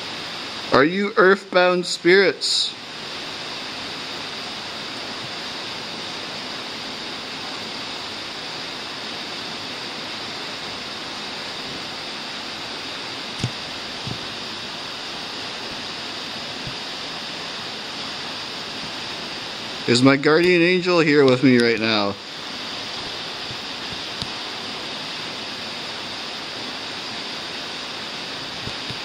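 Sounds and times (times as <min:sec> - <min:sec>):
steady rushing hiss: 0:00.0 - 0:29.0.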